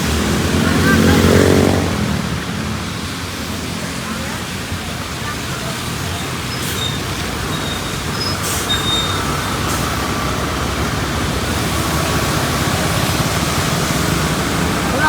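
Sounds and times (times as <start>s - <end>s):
tyres hissing on wet road: 0.0s - 15.0s
vehicle engines rumbling: 0.0s - 15.0s.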